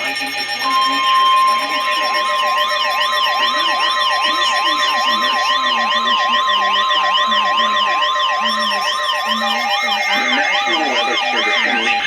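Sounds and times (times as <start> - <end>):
lower steady tone: 0.0 - 12.0
siren-like warble: 0.0 - 12.0
steady alert tone: 0.0 - 12.0.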